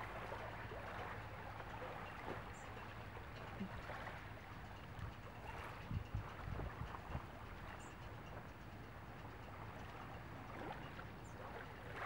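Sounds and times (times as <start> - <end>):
small waves lapping at shore: 0.0 - 12.0.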